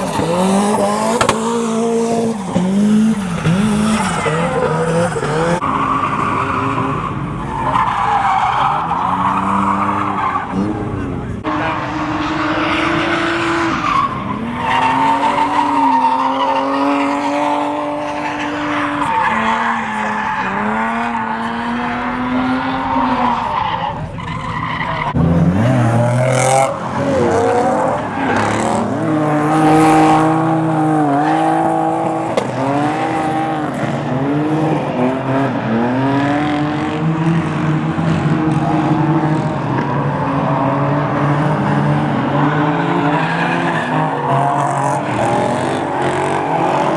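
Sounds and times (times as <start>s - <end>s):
car engines revving: 0.0s - 46.9s
tyres squealing and skidding: 0.0s - 46.9s.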